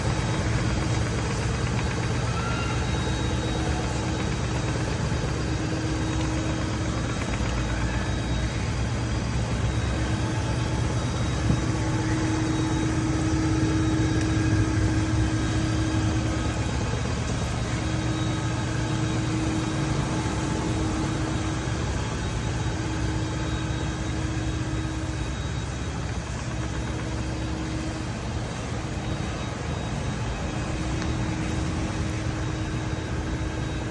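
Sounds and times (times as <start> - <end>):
vacuum sweeper motor hum: 0.0 - 33.9.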